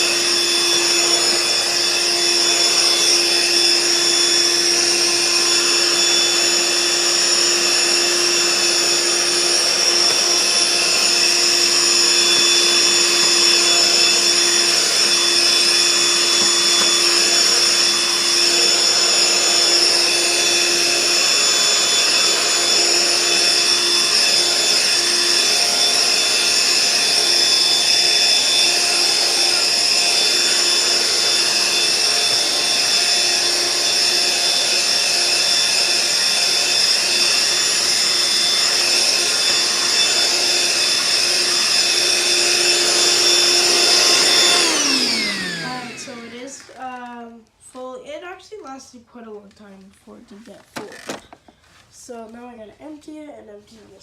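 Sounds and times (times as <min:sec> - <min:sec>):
vacuum cleaner motor whining: 0:00.0 - 0:48.0, 0:49.6 - 0:52.6.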